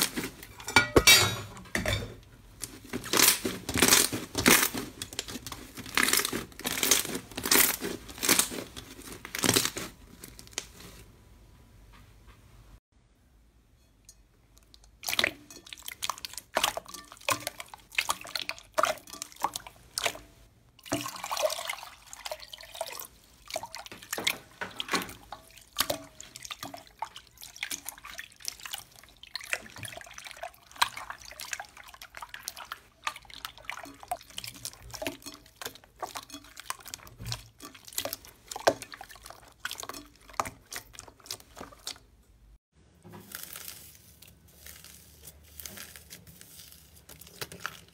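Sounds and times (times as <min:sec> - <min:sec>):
slime squelching: 0:00.0 - 0:00.7, 0:02.4 - 0:11.1, 0:14.4 - 0:47.9.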